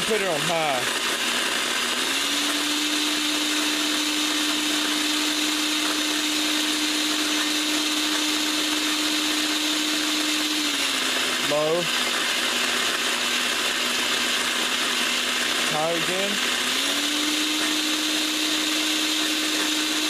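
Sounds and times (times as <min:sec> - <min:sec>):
blender motor humming: 0:00.0 - 0:20.0.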